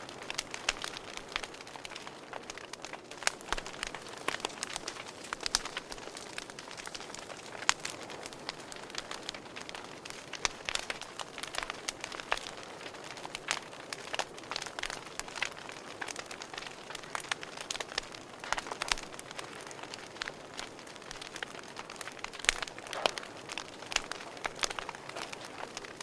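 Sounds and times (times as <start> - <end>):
fire popping and snapping: 0.0 - 26.0
wood fire crackling: 0.0 - 26.0.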